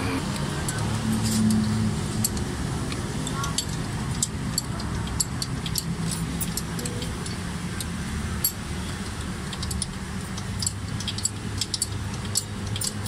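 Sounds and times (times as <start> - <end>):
hand tools clicking on metal: 0.3 - 13.0.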